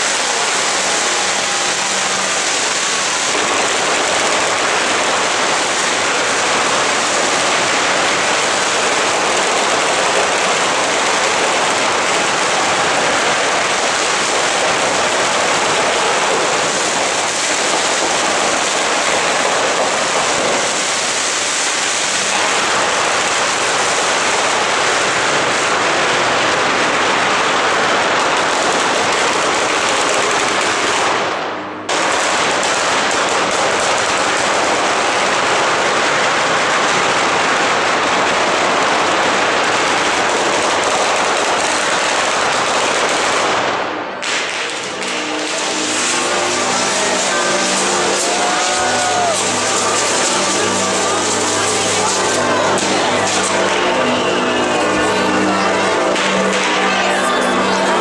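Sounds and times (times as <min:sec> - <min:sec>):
fireworks crackling bangs: 0:00.0 - 0:58.0.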